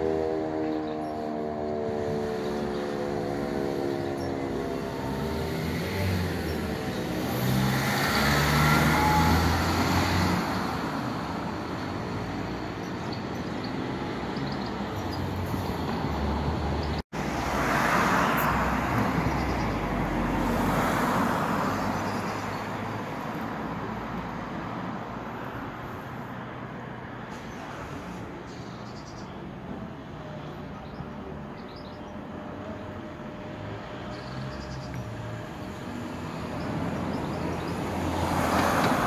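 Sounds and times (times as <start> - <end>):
cars passing along street: 0.0 - 39.0.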